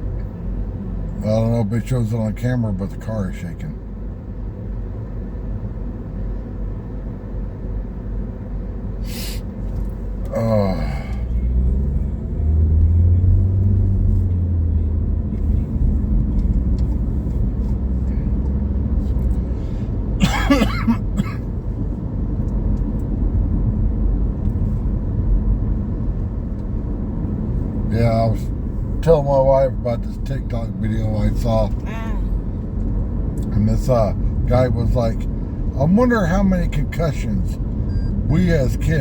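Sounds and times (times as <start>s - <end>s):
road and wind noise in car: 0.0s - 39.0s.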